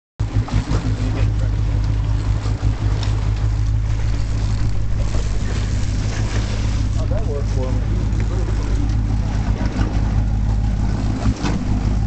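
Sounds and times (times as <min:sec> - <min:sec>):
boat engine droning: 0:00.2 - 0:12.0.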